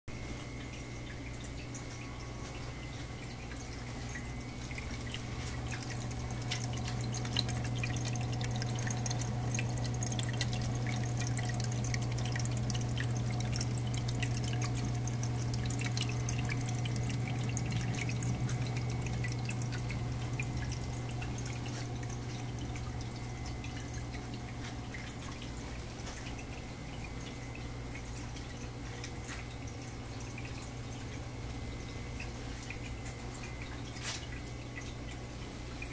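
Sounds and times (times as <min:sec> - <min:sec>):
steady low hum: 0:00.1 - 0:35.9
fountain water trickling and dripping: 0:00.6 - 0:35.9.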